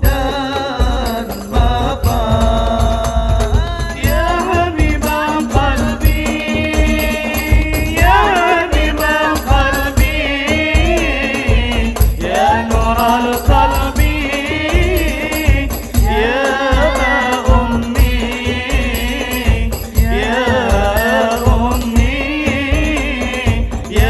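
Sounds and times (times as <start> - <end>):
drum beat: 0.0 - 24.0
rattling percussion: 0.0 - 24.0.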